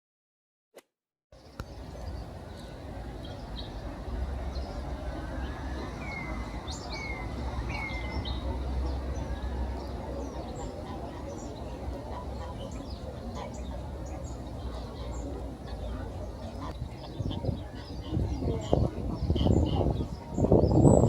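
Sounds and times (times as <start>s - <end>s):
birds chirping: 1.4s - 21.0s.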